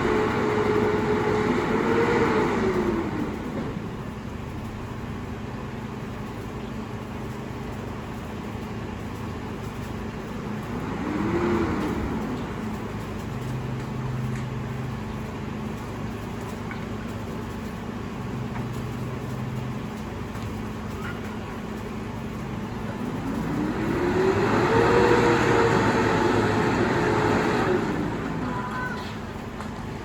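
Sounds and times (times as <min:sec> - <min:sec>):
garbage truck engine running: 0:00.0 - 0:30.0.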